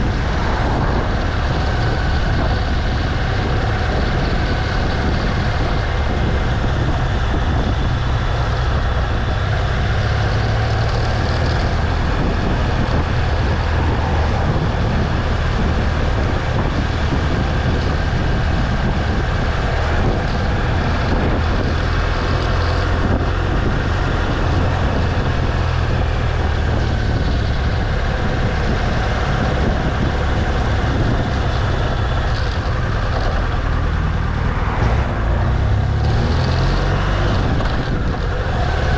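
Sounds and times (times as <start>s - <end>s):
motorcycle engine rumble: 0.0s - 38.9s
wind and road noise: 0.0s - 38.9s.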